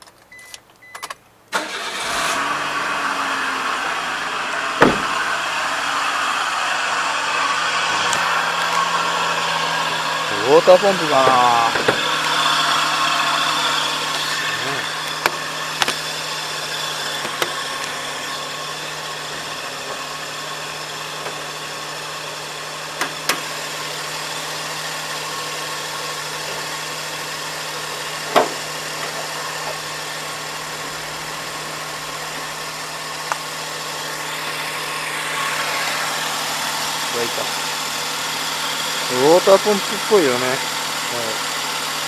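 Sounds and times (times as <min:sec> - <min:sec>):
car engine idling: 0:01.5 - 0:42.0.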